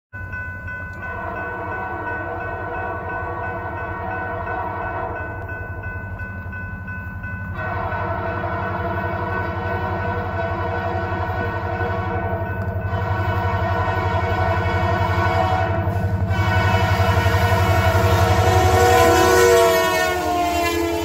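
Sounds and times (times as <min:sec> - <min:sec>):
locomotive horn chord: 0:01.0 - 0:05.6, 0:07.5 - 0:21.0.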